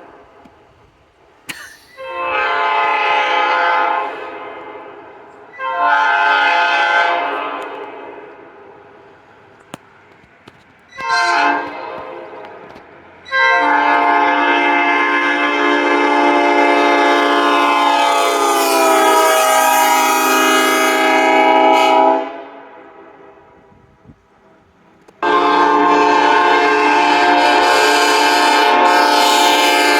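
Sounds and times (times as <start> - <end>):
locomotive air horn blasts: 1.9 - 8.4, 10.9 - 23.8, 25.2 - 29.9.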